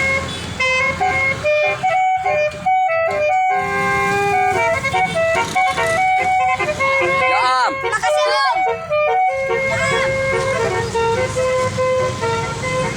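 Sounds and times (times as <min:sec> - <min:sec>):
multi-tone bus horn tune: 0:00.0 - 0:12.9.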